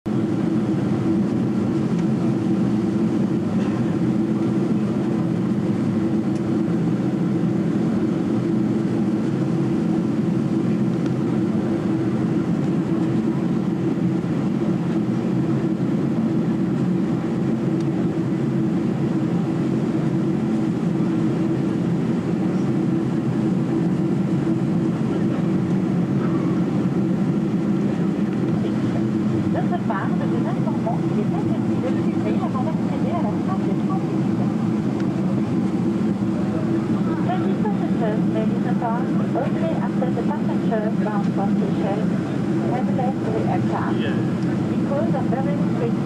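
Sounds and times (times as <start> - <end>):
airliner cabin drone: 0.1 - 46.0.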